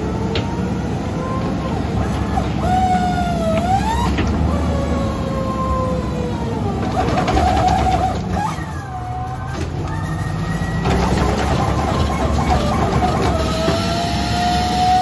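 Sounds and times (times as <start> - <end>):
garbage truck engine rumbling: 0.0 - 15.0
hydraulics whining: 0.0 - 15.0.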